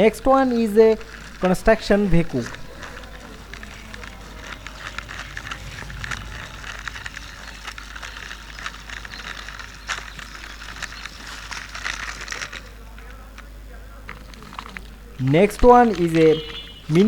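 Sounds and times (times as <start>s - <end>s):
plastic toy clicking and rattling: 0.0s - 17.0s
wrapping crinkling: 0.0s - 17.0s.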